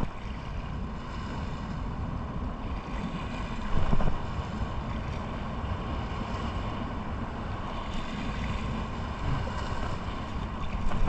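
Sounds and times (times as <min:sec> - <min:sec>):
water lapping: 0:00.0 - 0:02.0, 0:02.6 - 0:11.0
wind buffeting microphone: 0:00.0 - 0:11.0.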